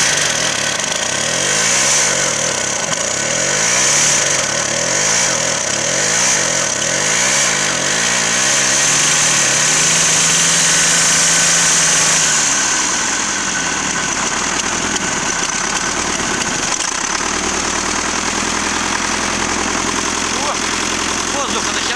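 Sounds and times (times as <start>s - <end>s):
old tractor engine running: 0.0s - 21.9s.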